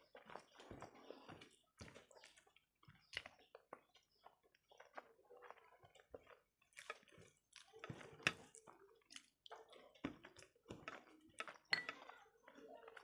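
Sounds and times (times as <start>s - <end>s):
wet chewing and mouth clicks: 0.0s - 13.0s.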